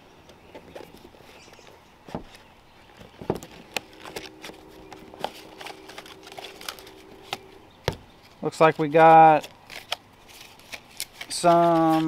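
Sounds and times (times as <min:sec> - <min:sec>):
faint steady hum: 0:00.0 - 0:12.0
packaging rustling: 0:02.3 - 0:12.0.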